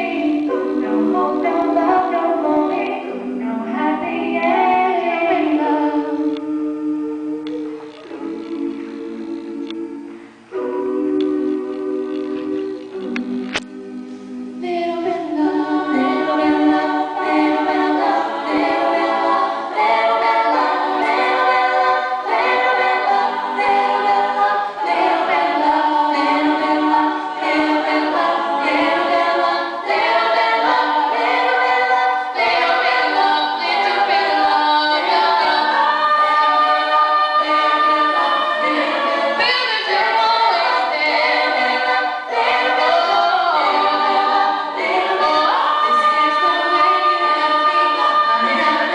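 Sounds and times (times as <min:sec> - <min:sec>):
women singing a cappella: 0:00.0 - 0:48.9.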